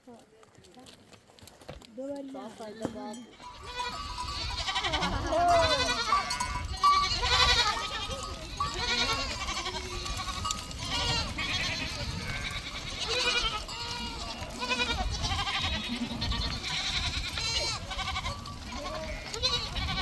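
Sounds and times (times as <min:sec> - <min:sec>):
goats bleating: 0:02.6 - 0:20.0.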